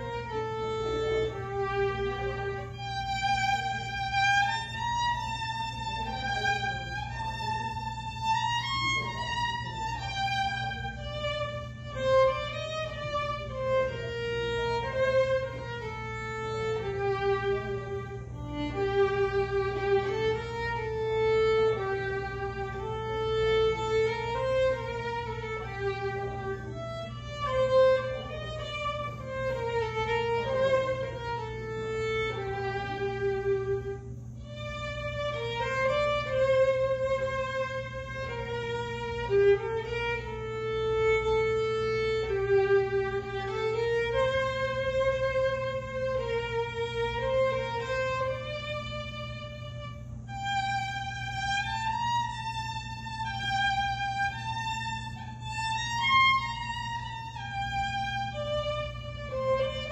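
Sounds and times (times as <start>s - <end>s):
faint steady hum: 0.0s - 59.9s
solo violin melody: 0.0s - 59.9s.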